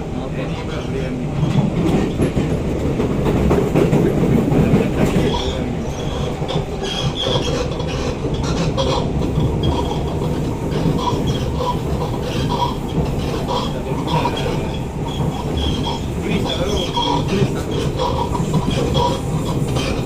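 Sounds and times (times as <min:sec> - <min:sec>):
metro train rumbling: 0:00.0 - 0:20.0
wheels clicking and clattering: 0:01.5 - 0:20.0.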